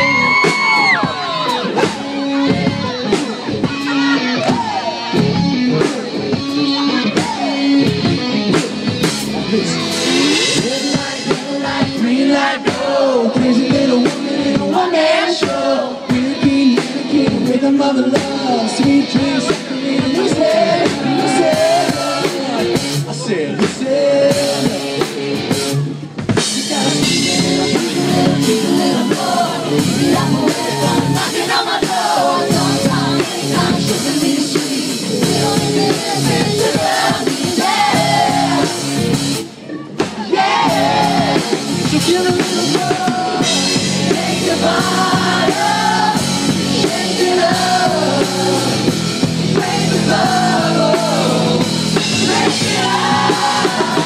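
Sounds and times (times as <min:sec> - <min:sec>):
drum kit: 0:00.0 - 0:54.0
electric guitar: 0:00.0 - 0:54.0
lead singer singing: 0:00.0 - 0:54.0.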